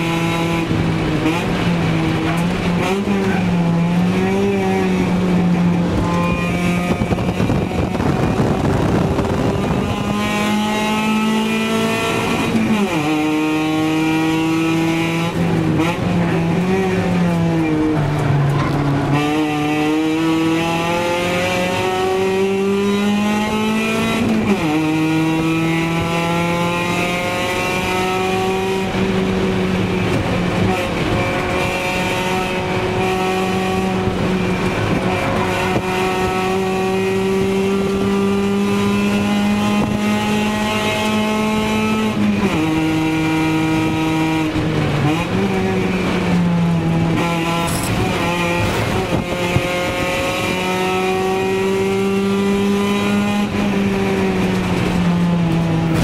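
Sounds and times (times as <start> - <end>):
car engine revving: 0.0 - 56.0
road noise: 0.0 - 56.0.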